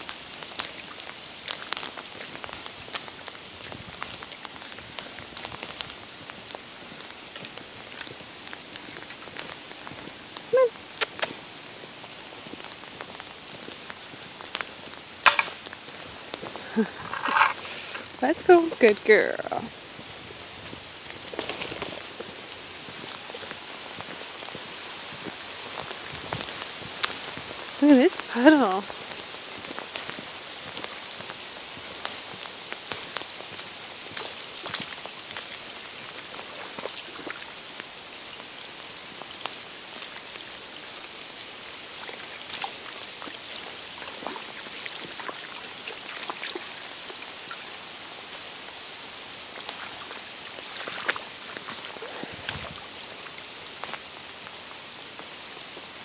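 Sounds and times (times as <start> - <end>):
rain on paved path and puddles: 0.0 - 56.0.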